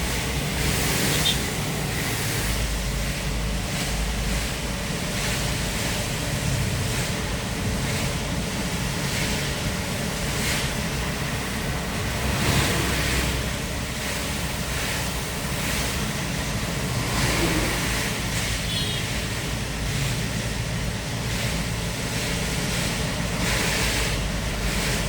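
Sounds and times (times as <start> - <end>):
hiss of rain and road spray: 0.0 - 25.0
truck engine running: 0.0 - 25.0.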